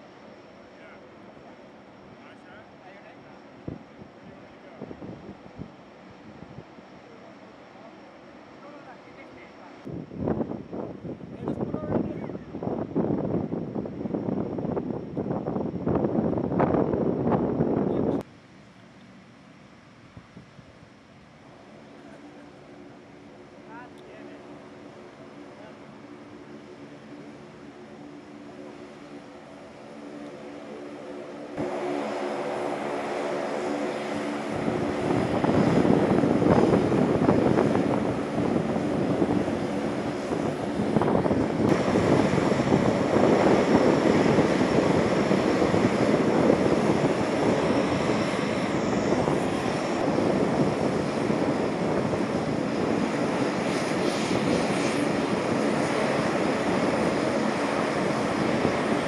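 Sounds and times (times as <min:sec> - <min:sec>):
turboprop aircraft engines droning: 0:00.0 - 0:59.0.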